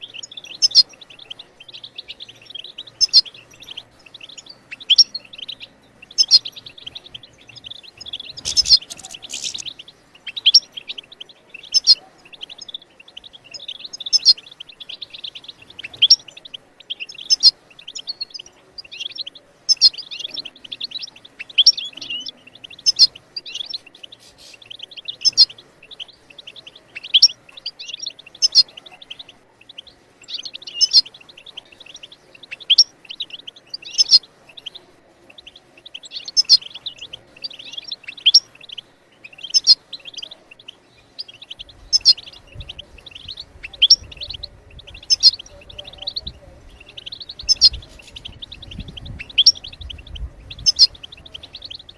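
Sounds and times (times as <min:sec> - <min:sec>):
finch twittering: 0:00.0 - 0:51.9.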